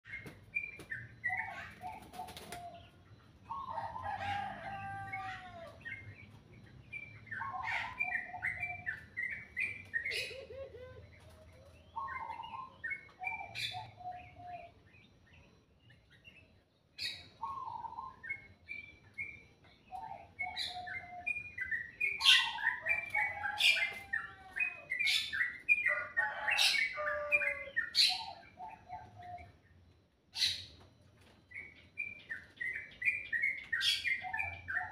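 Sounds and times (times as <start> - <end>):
songbirds singing whistled notes: 0.1 - 34.9.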